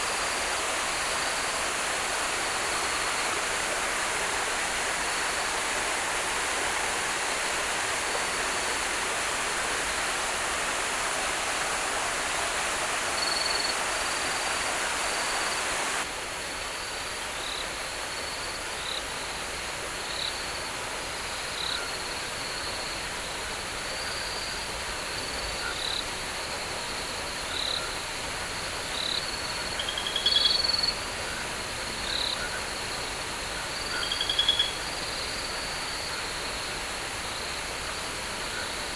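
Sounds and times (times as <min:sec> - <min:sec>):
high insect hum: 0:00.0 - 0:16.1, 0:16.8 - 0:38.9
stream water rushing: 0:00.0 - 0:38.9.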